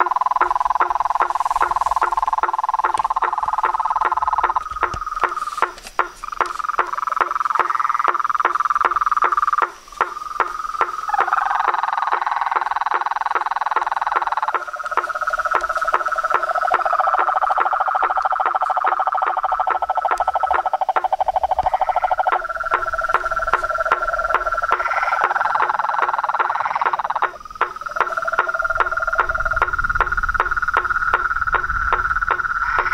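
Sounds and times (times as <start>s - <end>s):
frogs trilling: 0.0s - 32.9s
ticking clicks: 0.0s - 32.9s.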